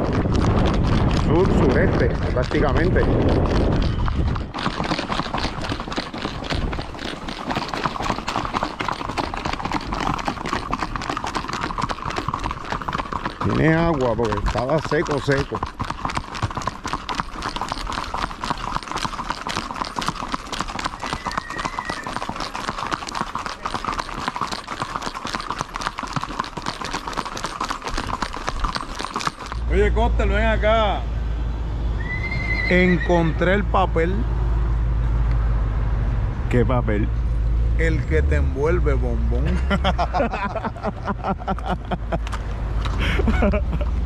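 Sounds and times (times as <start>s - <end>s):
horse hooves clip-clopping: 0.0s - 30.6s, 39.3s - 44.0s.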